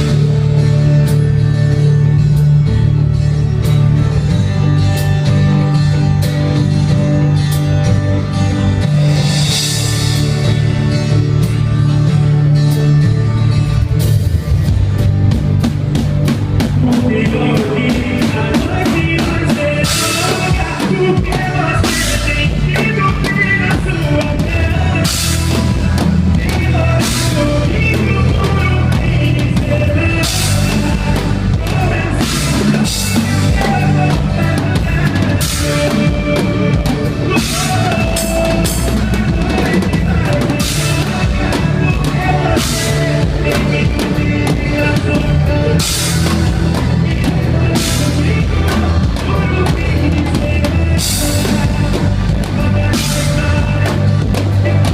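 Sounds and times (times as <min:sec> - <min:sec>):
band playing: 0:00.0 - 0:54.9
bass drum beat: 0:00.0 - 0:54.9.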